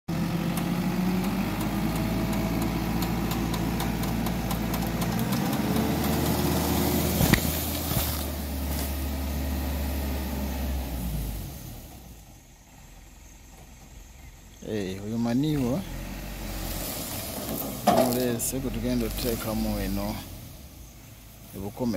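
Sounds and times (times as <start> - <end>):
truck engine idling: 0.1 - 21.9.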